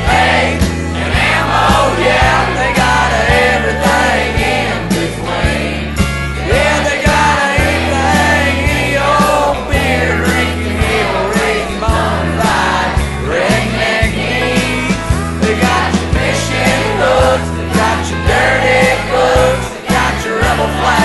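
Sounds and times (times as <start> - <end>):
country band playing: 0.0 - 21.0.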